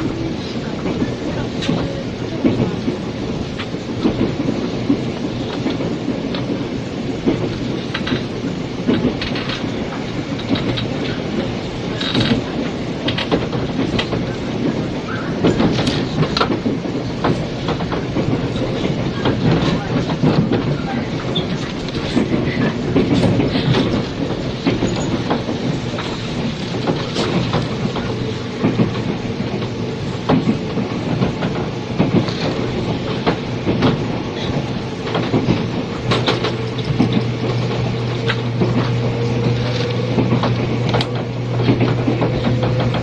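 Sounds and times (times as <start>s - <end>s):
train rumble: 0.0s - 43.0s
wheels clicking over rail joints: 0.0s - 43.0s.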